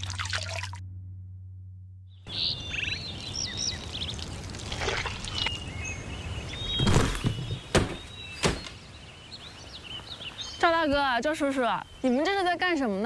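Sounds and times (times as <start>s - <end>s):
birds chirping: 2.1s - 13.0s.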